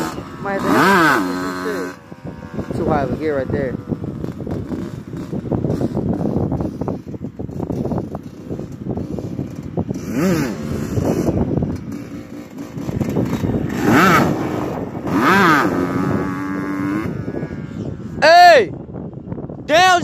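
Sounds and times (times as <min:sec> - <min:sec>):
dirt bike engine revving: 0:00.0 - 0:18.2.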